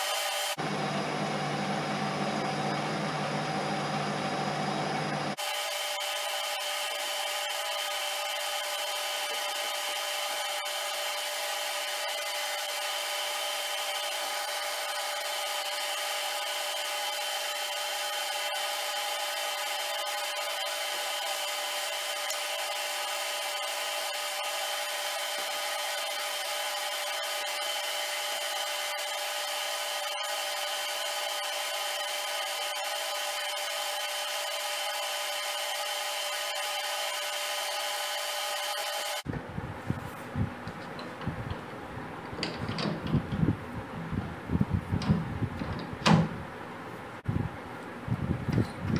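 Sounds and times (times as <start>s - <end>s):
lathe cutting steel: 0.0s - 39.2s.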